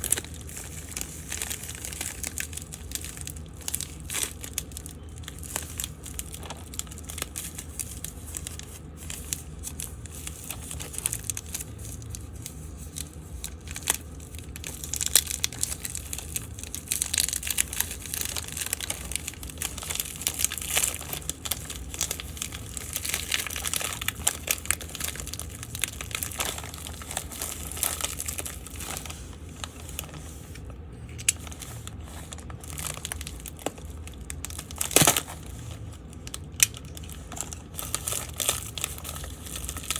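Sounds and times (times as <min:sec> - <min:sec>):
packaging crinkling: 0:00.0 - 0:39.9.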